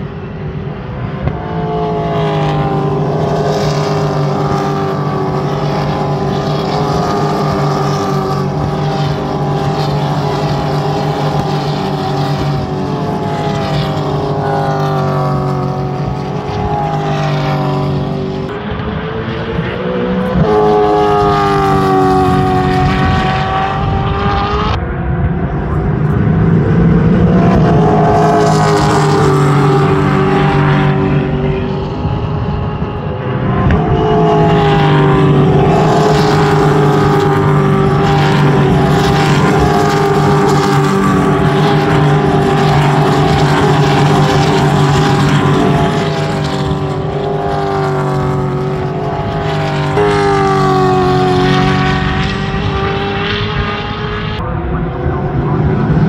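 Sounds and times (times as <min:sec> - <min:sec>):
race cars passing at speed: 0:00.0 - 0:56.0.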